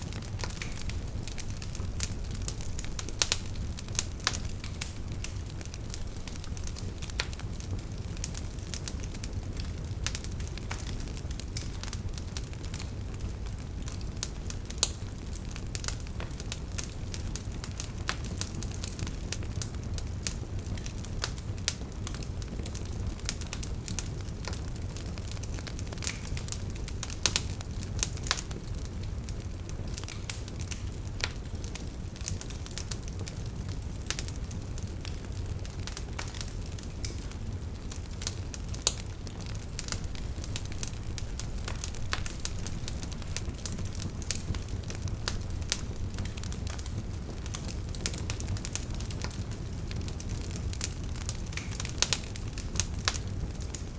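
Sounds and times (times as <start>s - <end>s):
campfire crackling and popping: 0.0s - 53.9s
low rumble of flames: 0.0s - 53.9s.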